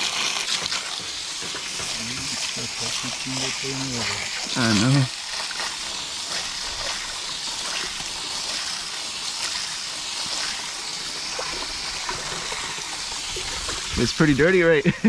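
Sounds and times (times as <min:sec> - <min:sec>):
water spraying from hose nozzle: 0:00.0 - 0:15.0.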